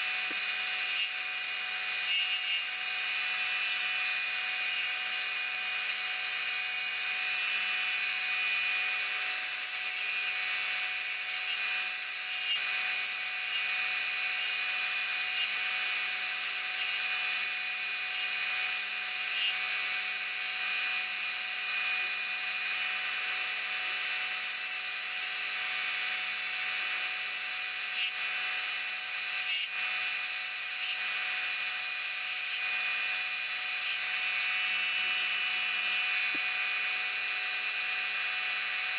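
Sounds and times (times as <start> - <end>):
lathe tool cutting hiss: 0.0 - 38.9
wood lathe motor whine: 0.0 - 38.9.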